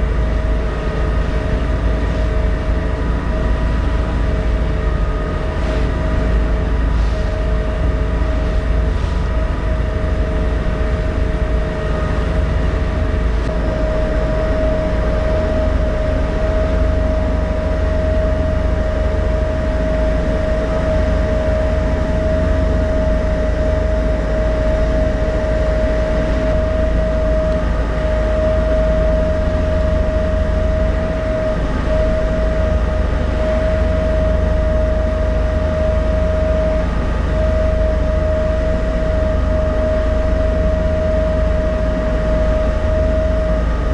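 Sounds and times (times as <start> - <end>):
ship engine rumble: 0.0 - 43.9
steady machinery whine: 0.0 - 43.9.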